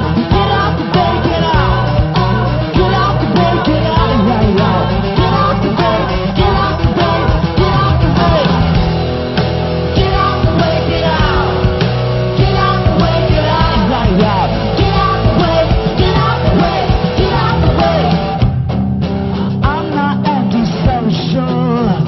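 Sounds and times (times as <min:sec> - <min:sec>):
song with singing voice: 0:00.0 - 0:18.6, 0:19.4 - 0:22.0.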